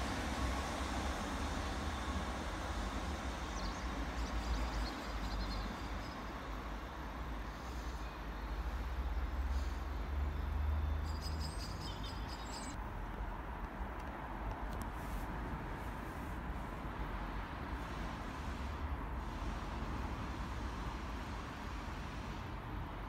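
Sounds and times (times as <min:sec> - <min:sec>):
train rumbling: 0:00.0 - 0:10.9, 0:12.8 - 0:23.0.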